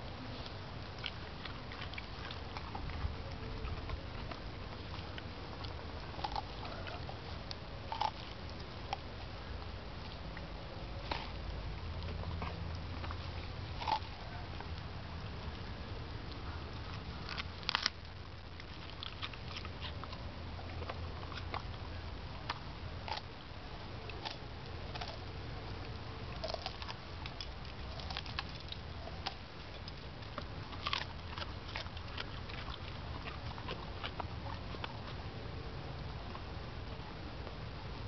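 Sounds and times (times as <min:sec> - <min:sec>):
dog crunching broccoli: 0:00.0 - 0:38.0.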